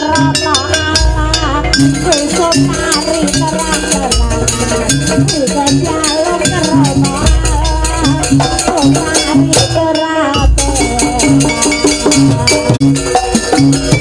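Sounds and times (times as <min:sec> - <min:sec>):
metal percussion strokes: 0:00.0 - 0:14.0
quick hand drumming: 0:00.0 - 0:14.0
reed shawm wavering melody: 0:00.0 - 0:14.0.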